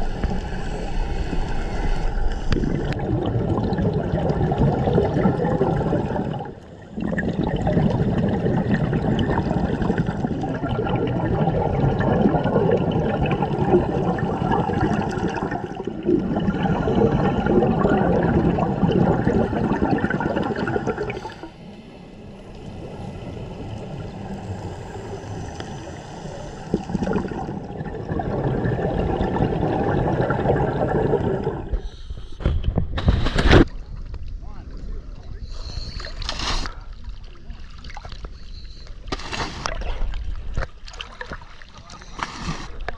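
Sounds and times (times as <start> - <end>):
underwater exhaust bubbles gurgling: 0.0 - 42.9.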